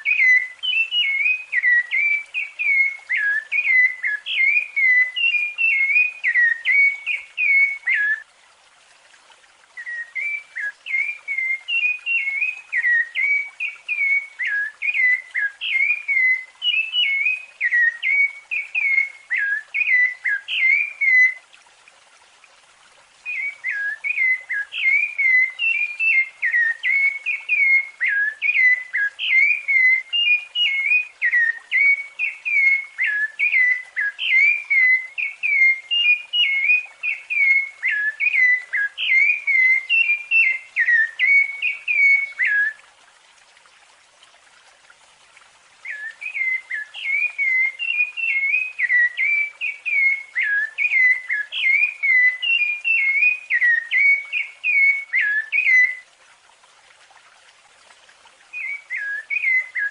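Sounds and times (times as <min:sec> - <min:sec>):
thrush singing whistled notes: 0:00.0 - 0:08.3, 0:09.8 - 0:21.4, 0:23.2 - 0:42.8, 0:45.8 - 0:56.1, 0:58.5 - 0:59.9.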